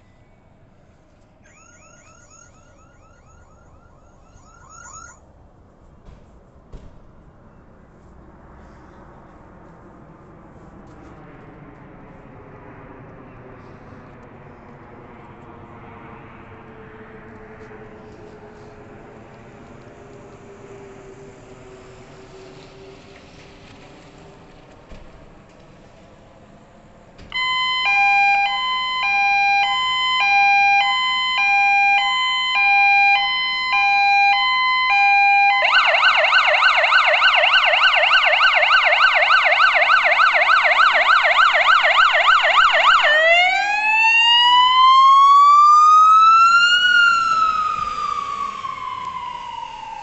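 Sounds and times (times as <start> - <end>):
emergency vehicle siren: 0.0 - 5.9, 8.2 - 50.0.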